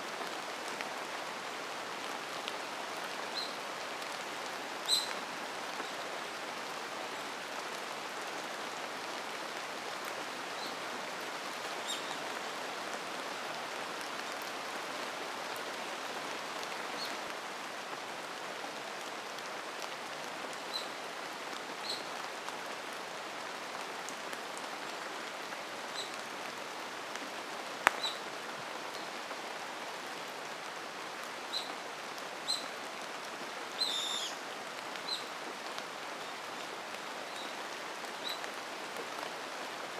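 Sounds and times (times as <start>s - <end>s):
rain falling on forest: 0.0s - 39.9s.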